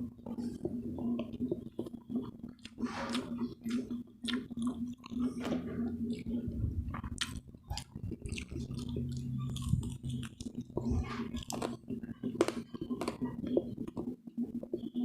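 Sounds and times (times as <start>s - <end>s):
crunchy food chewing: 0.2s - 15.0s.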